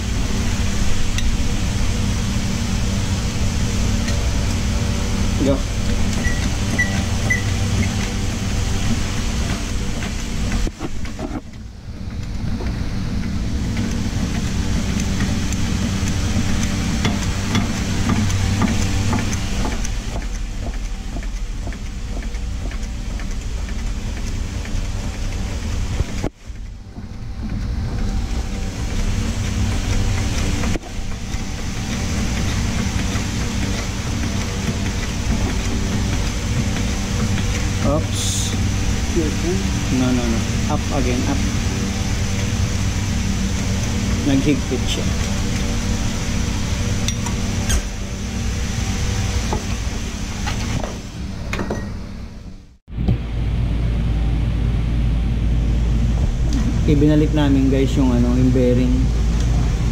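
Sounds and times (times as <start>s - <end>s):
machine hum with held tones: 0.0s - 59.9s.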